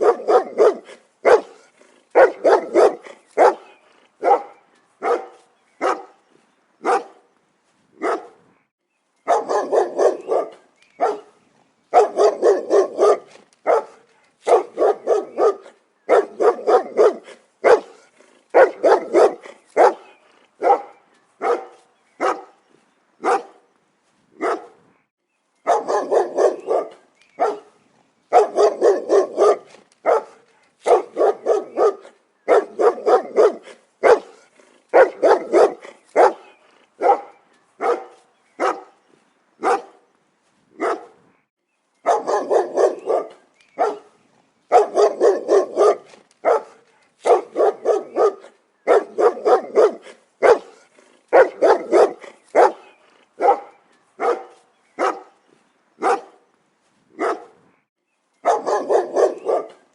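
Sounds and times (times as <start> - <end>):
dog barking: 0.0 - 6.2, 6.8 - 7.2, 8.0 - 8.4, 9.3 - 22.6, 23.2 - 23.6, 24.4 - 24.8, 25.6 - 39.0, 39.6 - 40.0, 40.8 - 41.2, 42.0 - 55.4, 56.0 - 56.5, 57.2 - 57.6, 58.4 - 59.9.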